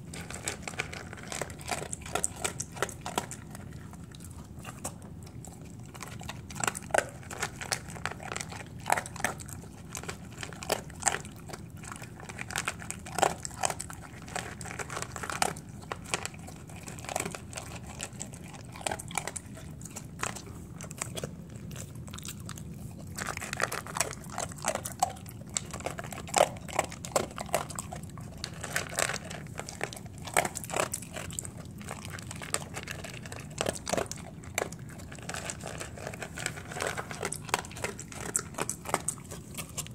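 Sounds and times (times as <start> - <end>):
dog crunching dry kibble: 0.0 - 39.9.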